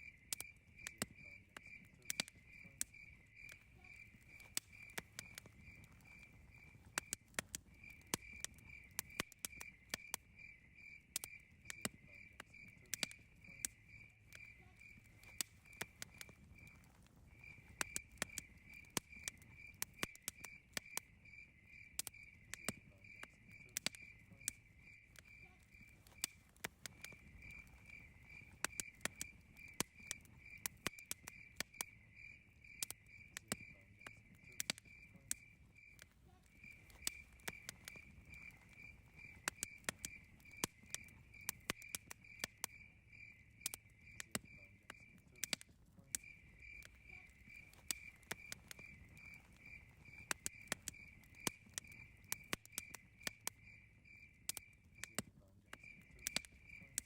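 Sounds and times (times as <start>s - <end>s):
campfire crackling and popping: 0.0s - 57.0s
cricket chirping: 0.0s - 57.0s.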